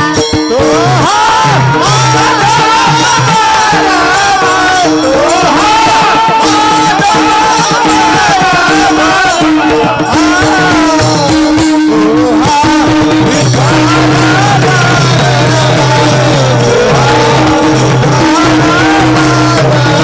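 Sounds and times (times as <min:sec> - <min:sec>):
jingling hand percussion: 0:00.0 - 0:20.0.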